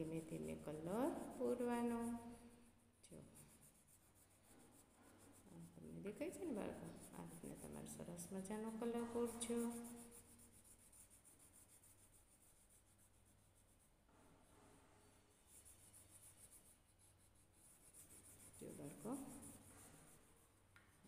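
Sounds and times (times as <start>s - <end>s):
crayon rubbing on paper: 0.0s - 2.6s, 3.2s - 13.9s, 15.4s - 20.6s.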